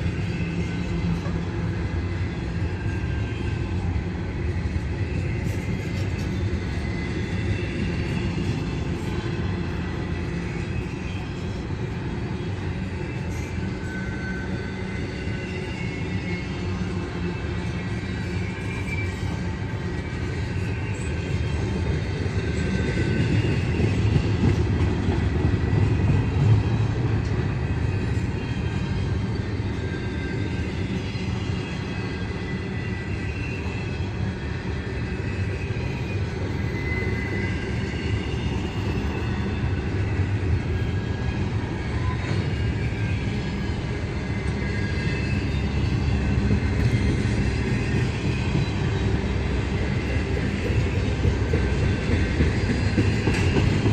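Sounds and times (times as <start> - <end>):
faint high wheel squeals: 0.0 - 53.9
train wheels rumbling on rail: 0.0 - 53.9.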